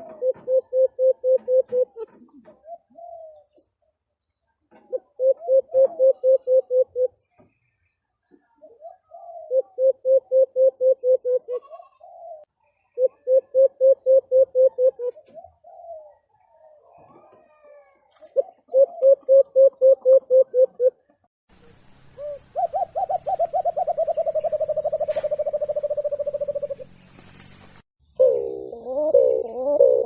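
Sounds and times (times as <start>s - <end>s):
dove cooing: 0.0s - 3.6s, 4.7s - 7.2s, 8.6s - 21.0s, 22.2s - 27.0s, 28.2s - 30.0s.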